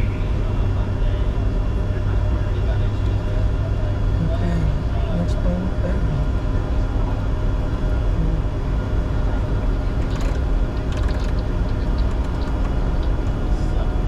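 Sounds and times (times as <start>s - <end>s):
deep rumble: 0.0s - 14.0s
steady hum of tones: 0.0s - 14.0s.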